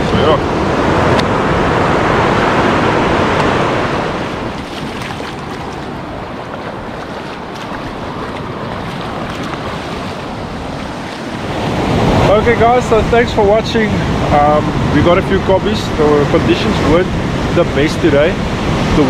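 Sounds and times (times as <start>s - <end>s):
surf washing up sand: 0.0s - 19.0s.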